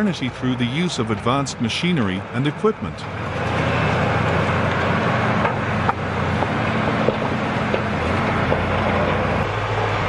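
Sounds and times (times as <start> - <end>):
heavy diesel machine running: 0.0 - 10.0.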